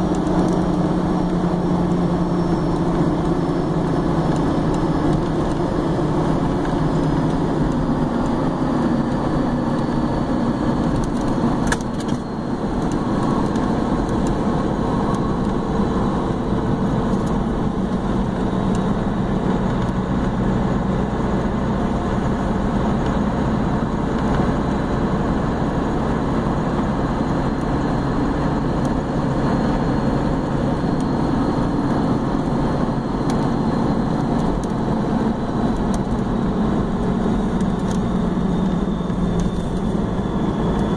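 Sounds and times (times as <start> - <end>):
diesel engine running at speed: 0.0 - 40.9
road noise: 0.0 - 40.9.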